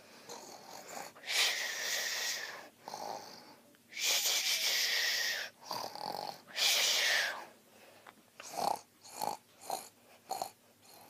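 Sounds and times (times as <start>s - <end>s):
toy playing recorded snoring: 0.3s - 6.9s, 8.4s - 11.0s.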